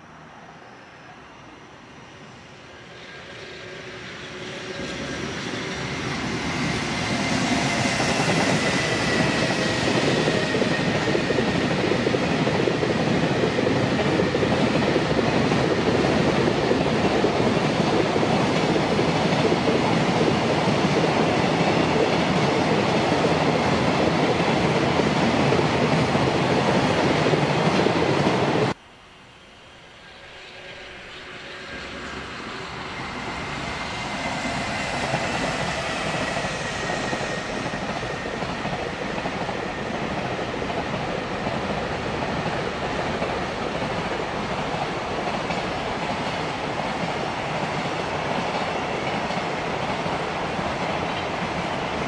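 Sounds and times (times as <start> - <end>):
train wheels clattering on rails: 4.1 - 28.5, 31.6 - 52.0.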